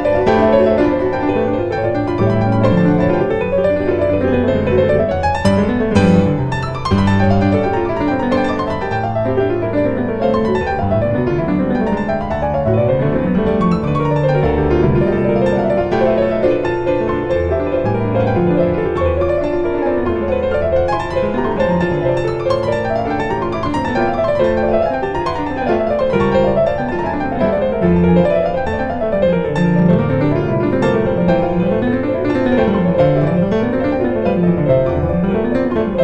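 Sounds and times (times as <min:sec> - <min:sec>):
piano arpeggios: 0:00.0 - 0:36.0.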